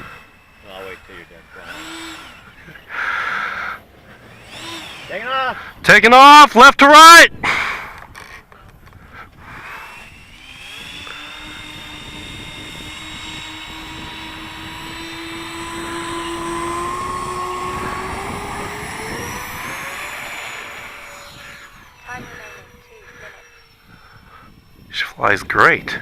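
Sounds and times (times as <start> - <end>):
air rushing through fans: 0.0 - 6.1, 9.0 - 26.0
electric ducted fans whining: 0.0 - 26.0.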